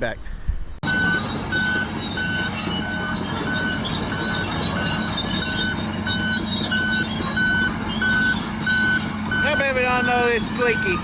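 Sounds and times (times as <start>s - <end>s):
backup alarm beeping: 0.8s - 11.0s
engine drone: 0.8s - 11.0s
track undercarriage squeaking: 0.8s - 11.0s.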